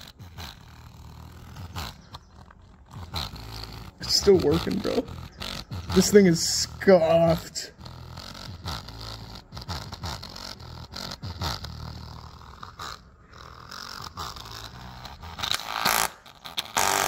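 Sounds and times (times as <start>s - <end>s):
distorted buzzing speaker: 0.0s - 17.0s.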